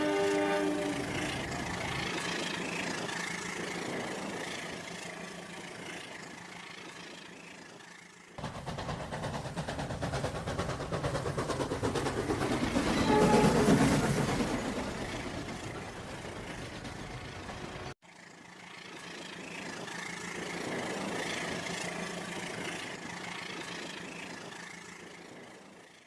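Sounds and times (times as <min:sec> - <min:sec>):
train running on rails: 0:00.0 - 0:26.0
rapid wheel clatter: 0:00.9 - 0:25.7.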